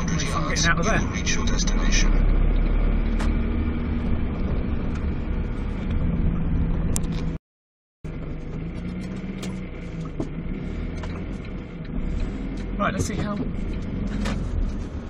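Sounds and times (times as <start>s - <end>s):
car engine: 0.0s - 7.4s, 8.0s - 15.0s
road noise inside car: 0.0s - 7.4s, 8.1s - 15.0s.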